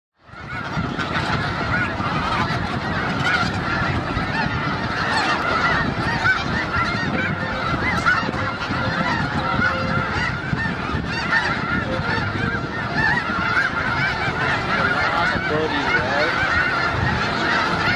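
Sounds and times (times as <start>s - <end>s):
geese honking: 0.2s - 17.9s.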